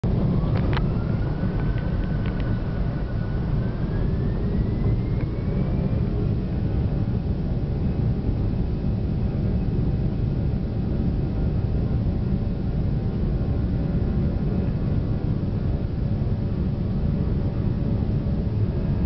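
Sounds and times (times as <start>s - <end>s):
jet engines rumbling on takeoff: 0.0s - 19.0s
rising engine whine: 0.0s - 19.0s.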